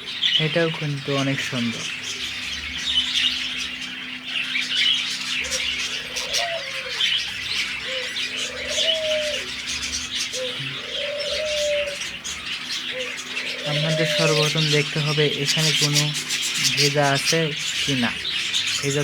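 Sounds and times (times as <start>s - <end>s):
budgerigars chattering and chirping: 0.0s - 19.0s
low cooing calls: 0.0s - 19.0s.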